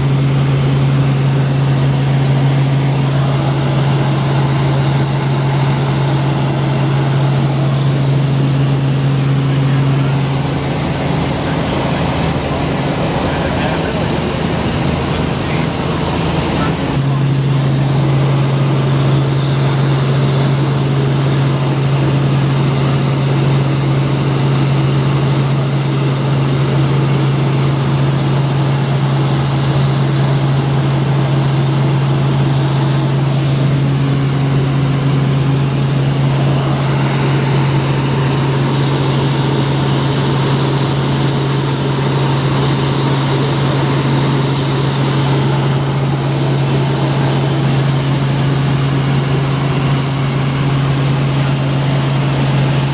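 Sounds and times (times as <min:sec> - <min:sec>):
constant rush of noise: 0:00.0 - 0:52.9
helicopter rotor and engine hum: 0:00.0 - 0:52.9.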